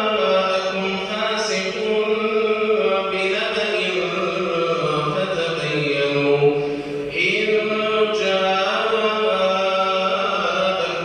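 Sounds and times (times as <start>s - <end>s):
man chanting recitation: 0.0s - 11.0s.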